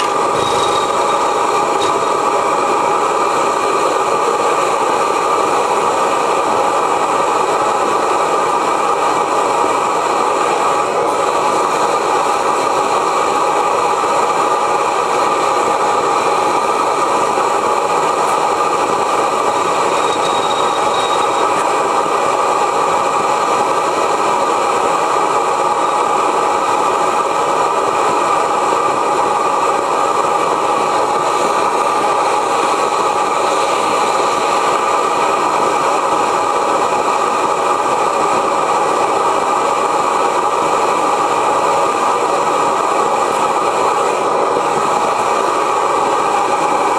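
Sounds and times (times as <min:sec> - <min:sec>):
propane burner hissing: 0:00.0 - 0:46.9.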